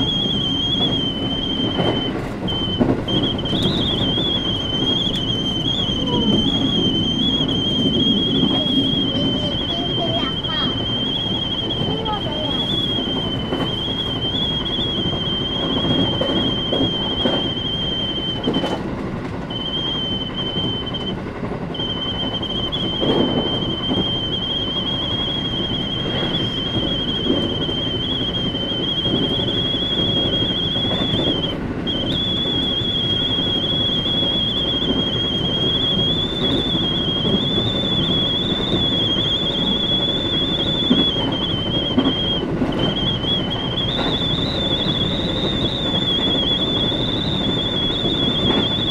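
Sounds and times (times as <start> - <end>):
high wavering whistling tone: 0.0 - 18.8, 19.4 - 48.9
train wheels rumbling on track: 0.0 - 48.9.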